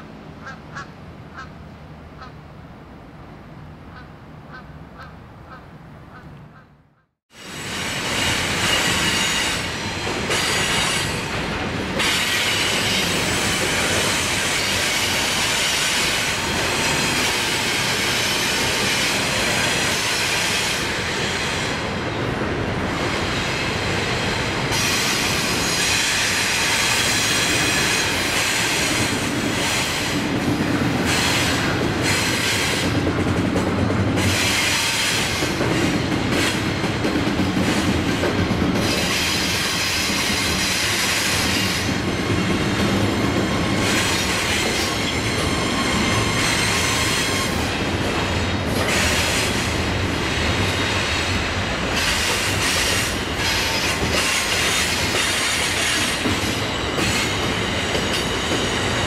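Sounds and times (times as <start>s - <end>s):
freight train rumble and clatter: 7.2s - 59.0s.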